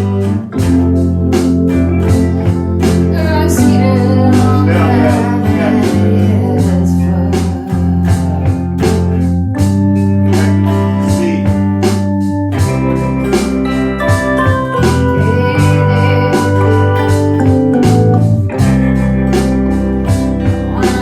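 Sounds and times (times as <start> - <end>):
band playing: 0.0 - 21.0
guitar: 0.0 - 21.0
organ: 0.0 - 21.0.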